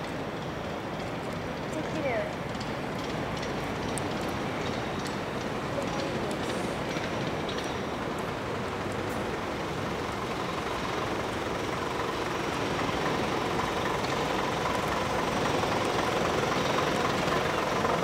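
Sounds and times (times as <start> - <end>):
city traffic passing: 0.0 - 18.0.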